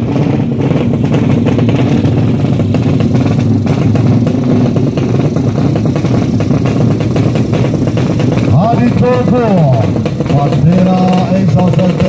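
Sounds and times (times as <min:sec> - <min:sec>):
motorcycle engine running loudly: 0:00.0 - 0:12.0.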